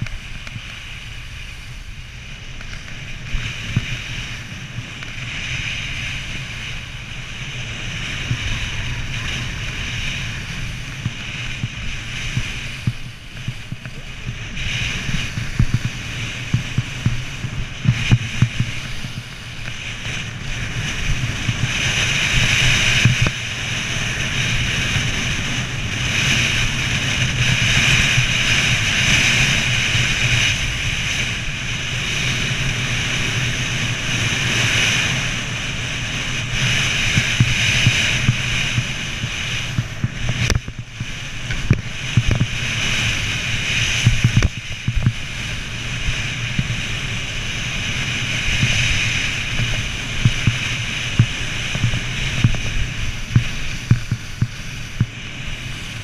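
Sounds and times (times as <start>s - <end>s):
skis carving over snow: 0.0s - 56.0s
wind rumbling on microphone: 0.0s - 56.0s.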